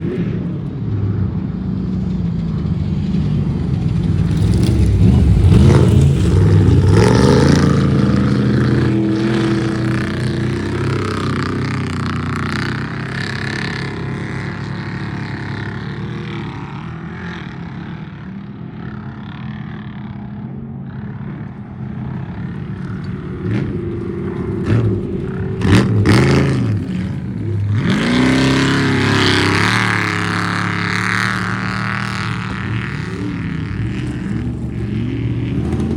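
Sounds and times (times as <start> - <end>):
race vehicle engines revving: 0.0 - 35.9.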